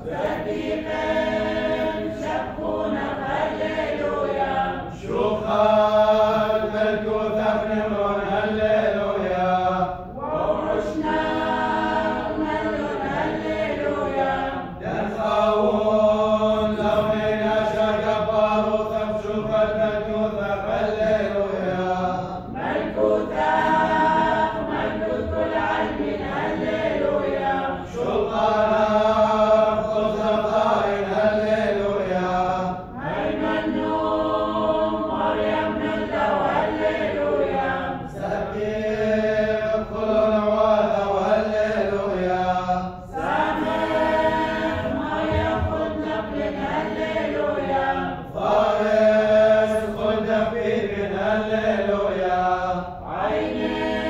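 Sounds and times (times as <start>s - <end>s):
group of voices chanting: 0.0s - 54.0s.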